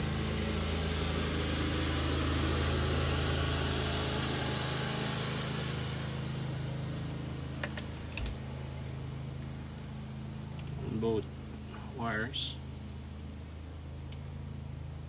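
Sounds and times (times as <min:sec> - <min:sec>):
lawn mower engine drone: 0:00.0 - 0:15.0.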